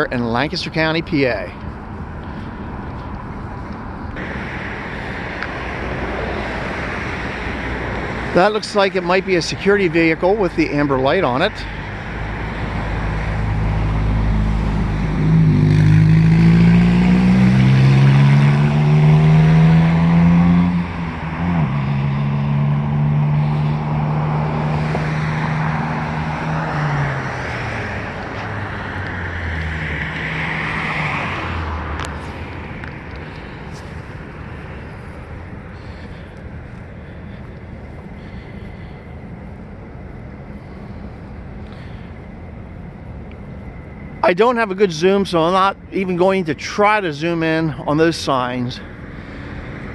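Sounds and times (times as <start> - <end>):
vehicle engine accelerating: 2.2 - 44.7.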